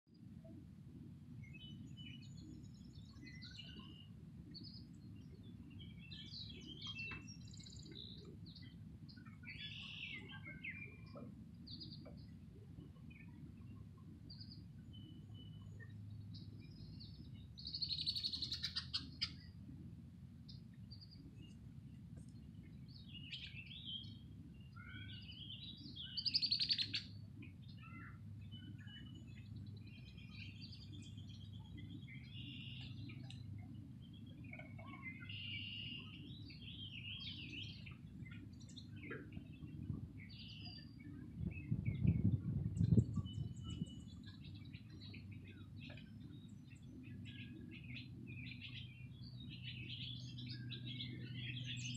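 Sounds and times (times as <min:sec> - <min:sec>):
low steady rumble: 0:00.1 - 0:51.9
songbirds chirping: 0:00.1 - 0:51.9.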